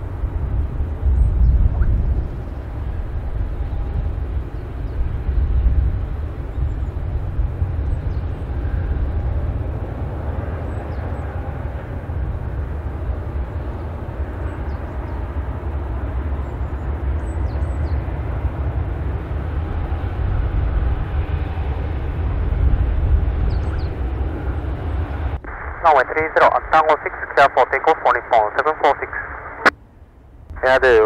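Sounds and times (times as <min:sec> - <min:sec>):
wind rumbling on microphone: 0:00.0 - 0:25.9
jet airliner hum: 0:00.0 - 0:31.0.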